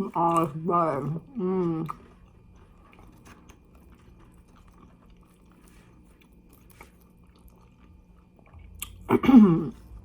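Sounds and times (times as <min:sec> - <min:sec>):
chewing crunchy food: 0:00.0 - 0:10.0.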